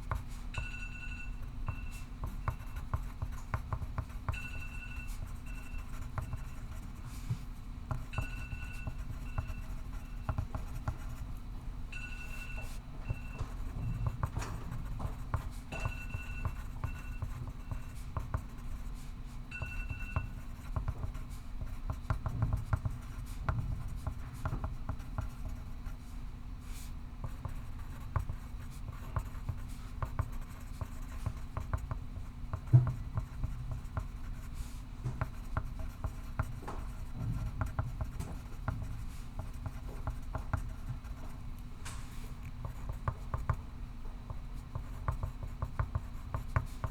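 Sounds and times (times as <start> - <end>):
room ventilation hum: 0.0 - 46.9
pencil scratching on paper: 0.1 - 11.3, 12.0 - 26.0, 27.2 - 41.2.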